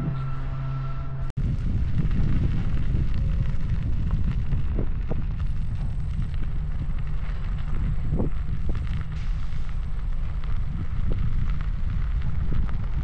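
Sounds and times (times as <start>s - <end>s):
wind buffeting microphone: 1.4s - 13.0s.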